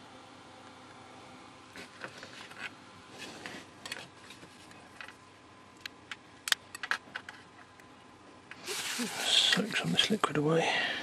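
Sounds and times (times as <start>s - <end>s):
low room noise: 0.0s - 11.0s.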